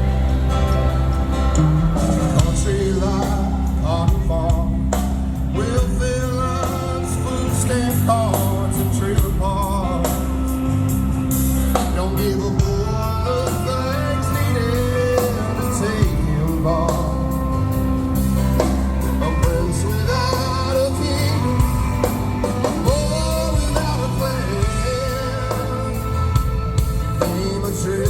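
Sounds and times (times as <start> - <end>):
bass and drums: 0.0 - 28.0
lead guitar bent notes: 0.0 - 28.0.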